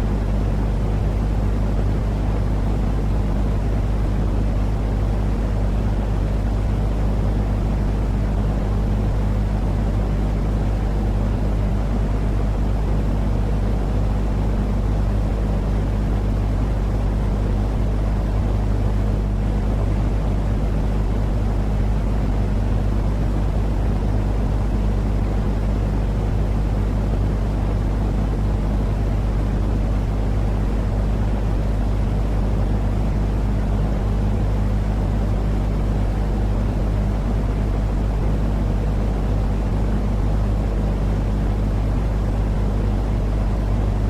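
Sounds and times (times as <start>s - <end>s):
low rumbling noise with deep hum: 0.0s - 44.0s.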